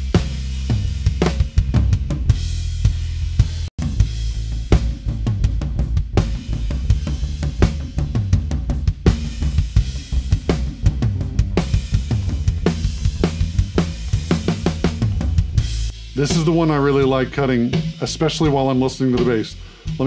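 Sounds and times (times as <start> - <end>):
bass guitar: 0.0 - 20.0
snare hi-hat and cymbal beat: 0.0 - 20.0.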